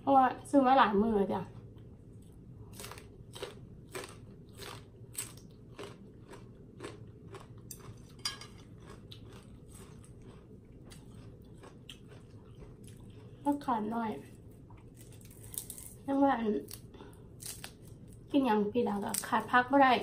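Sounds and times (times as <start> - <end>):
crunchy chewing of raw bean: 1.5 - 18.4.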